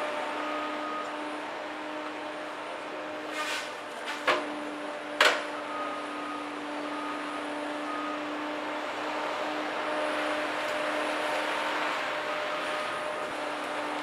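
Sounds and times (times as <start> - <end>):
machine engine and hydraulics humming: 0.0 - 14.0.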